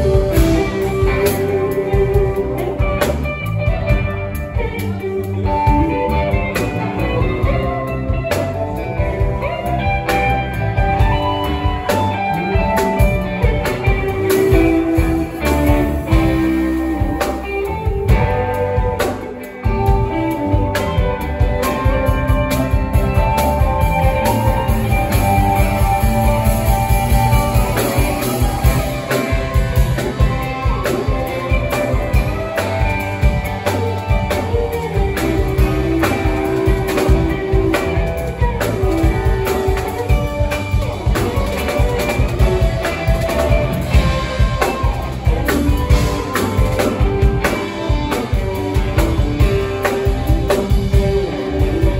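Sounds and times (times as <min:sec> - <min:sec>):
drum kit beat: 0:00.0 - 0:51.9
electric guitars: 0:00.0 - 0:51.9.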